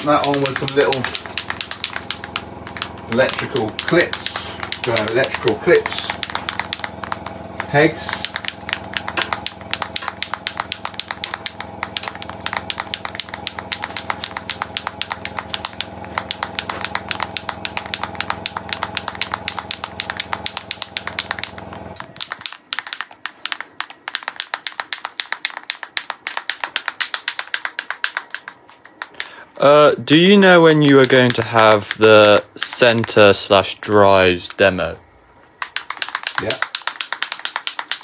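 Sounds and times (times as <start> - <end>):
paint bottle rattling when shaken: 0.0 - 29.3, 30.1 - 33.5, 35.6 - 38.0
machine humming: 0.0 - 38.0.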